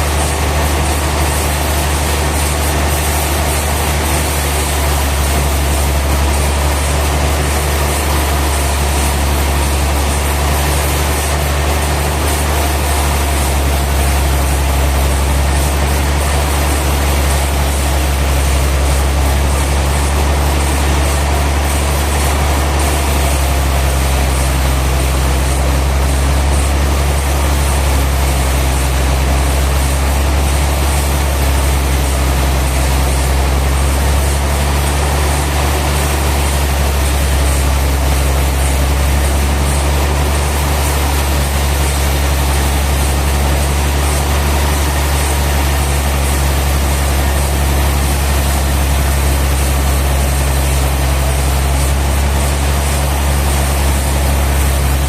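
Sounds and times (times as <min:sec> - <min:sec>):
heavy engine deep hum: 0:00.0 - 0:55.0
sawmill machinery running: 0:00.0 - 0:55.0.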